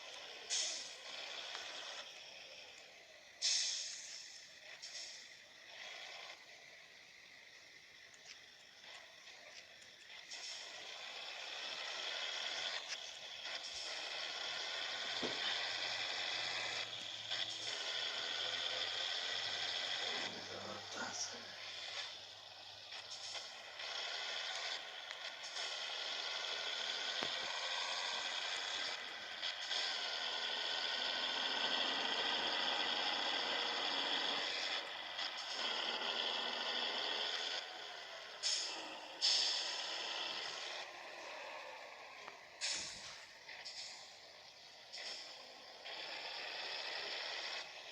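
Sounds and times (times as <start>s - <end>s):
truck running: 0.0s - 47.9s.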